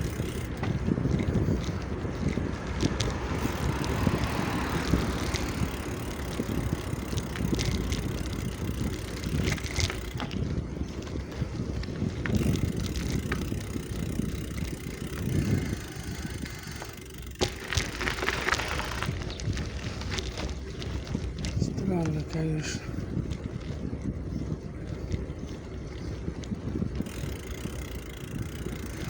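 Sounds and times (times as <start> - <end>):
bicycle rolling rumble: 0.0 - 29.0
wind on microphone: 0.0 - 29.0.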